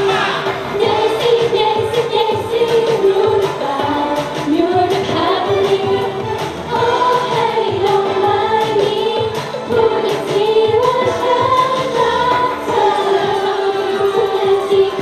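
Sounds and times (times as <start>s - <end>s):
backing track with drum beat: 0.0s - 15.0s
girls singing pop song: 0.0s - 15.0s.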